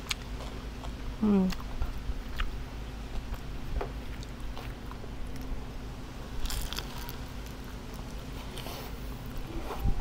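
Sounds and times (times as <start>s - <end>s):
person chewing and eating: 0.0s - 9.6s.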